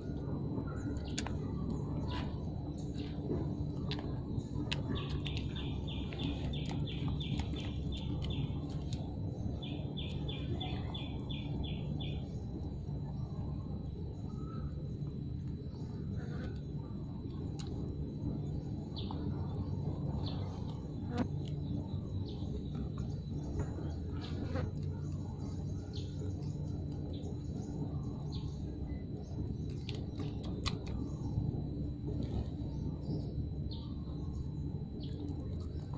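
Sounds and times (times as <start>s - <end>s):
low steady hum: 0.0s - 35.9s
steady low rumble: 0.0s - 35.9s.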